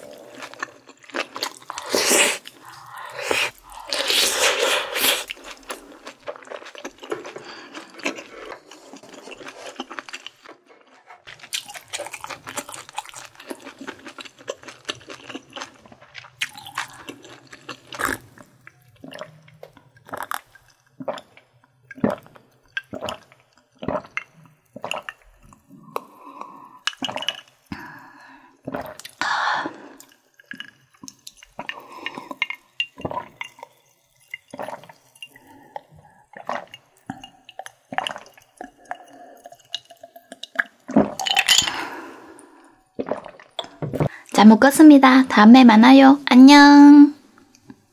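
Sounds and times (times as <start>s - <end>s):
chewing food: 0.0s - 28.0s, 29.8s - 44.2s
gulping water: 0.0s - 44.6s.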